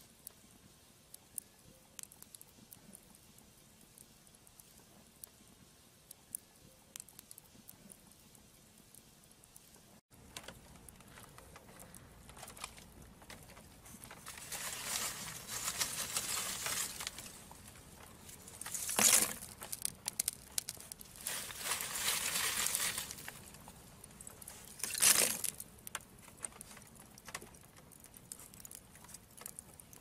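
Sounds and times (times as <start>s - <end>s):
embers crackling and popping: 0.0s - 30.0s.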